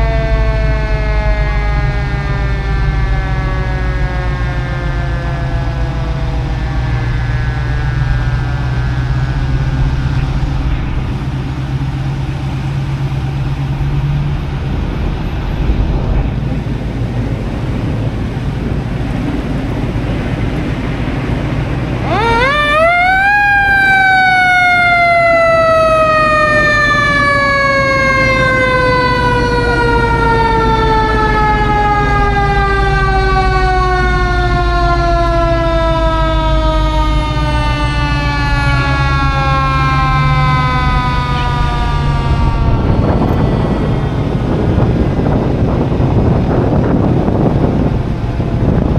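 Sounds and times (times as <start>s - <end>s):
fire truck siren: 0.0s - 48.9s
vehicle engine rumble: 0.0s - 48.9s.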